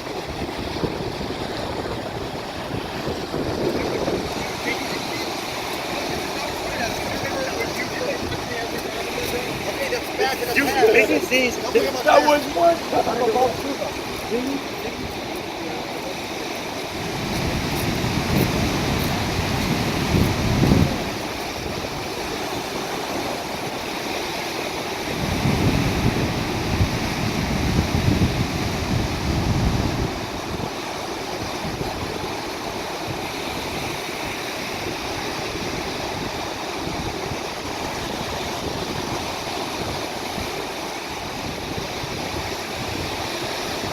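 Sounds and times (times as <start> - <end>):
moving water: 0.0 - 43.9
wind buffeting microphone: 0.0 - 43.9.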